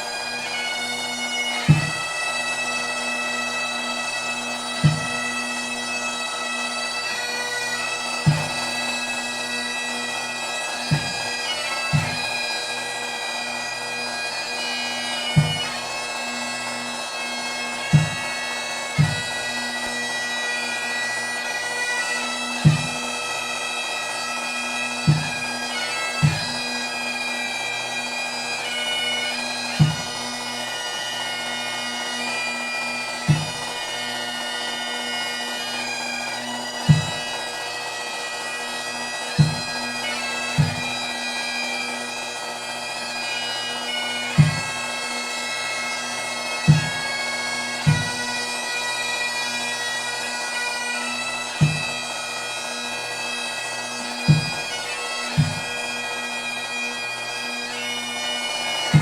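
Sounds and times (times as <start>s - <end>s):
bagpipes playing a tune: 0.0s - 59.0s.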